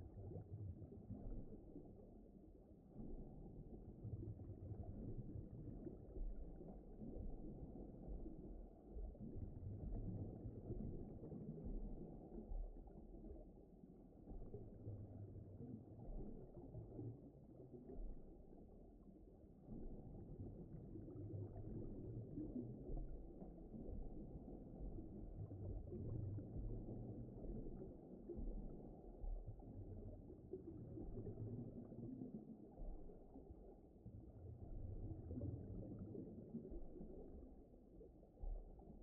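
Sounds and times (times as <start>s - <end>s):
muffled underwater rumbling: 0.0s - 39.0s.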